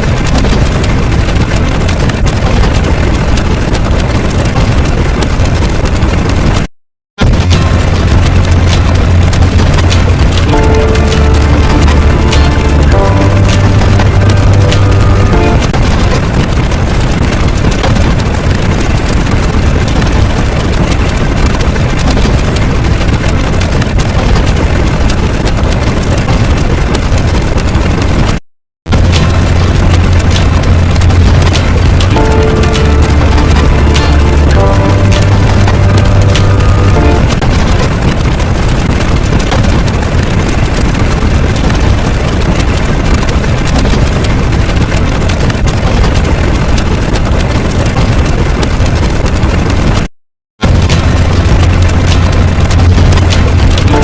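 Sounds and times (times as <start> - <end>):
loud low rumble with crackling: 0.0 - 54.0.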